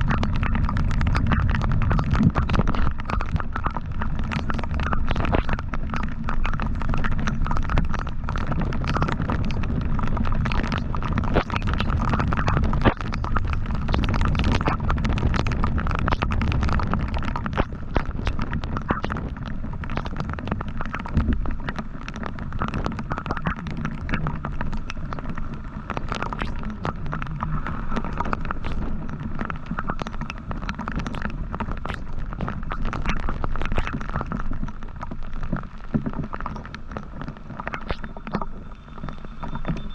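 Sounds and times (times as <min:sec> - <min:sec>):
short crackles: 0:00.0 - 0:39.9.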